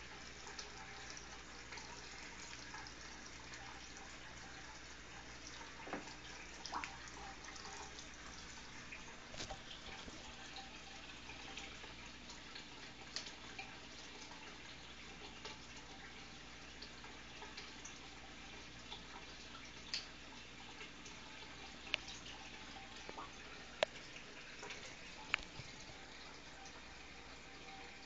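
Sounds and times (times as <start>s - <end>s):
water drips: 0.0s - 28.0s
water trickling from filter: 0.0s - 28.0s.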